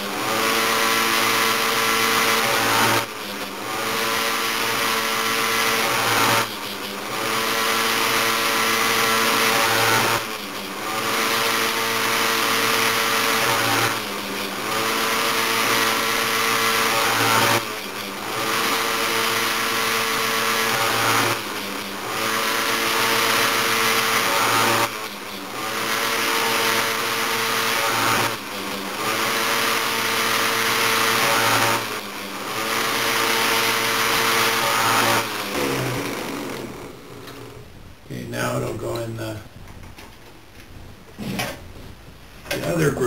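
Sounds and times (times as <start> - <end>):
grinder motor whine: 0.0 - 39.3.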